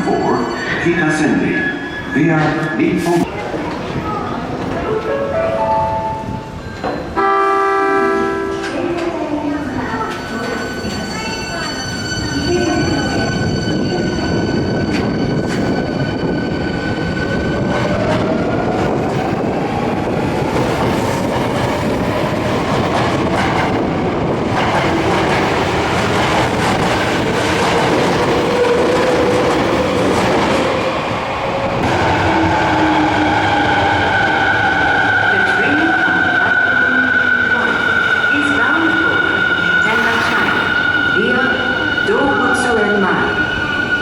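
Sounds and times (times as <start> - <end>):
train wheels rumbling on rails: 8.5 - 44.0.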